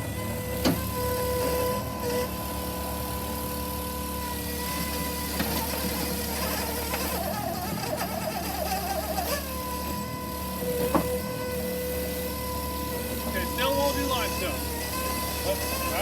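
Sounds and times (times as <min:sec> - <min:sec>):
electric machine whine: 0:00.0 - 0:16.0.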